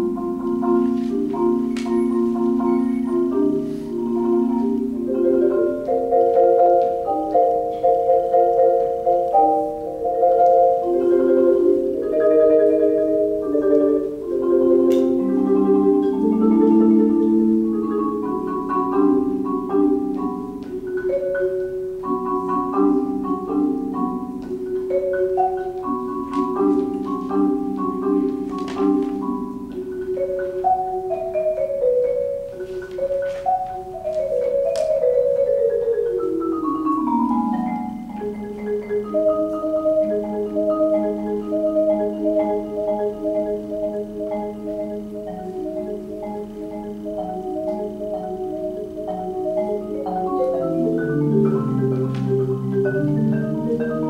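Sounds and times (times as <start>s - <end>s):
solo marimba: 0.0s - 54.0s.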